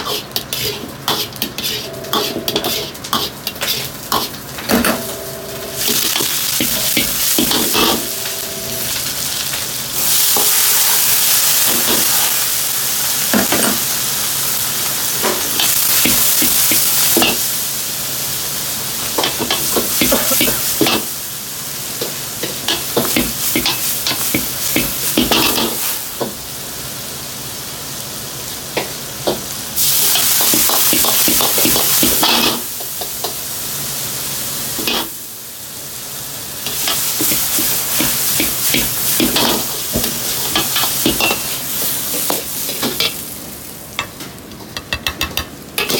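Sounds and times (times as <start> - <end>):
food sizzling in a wok: 0.0 - 45.9.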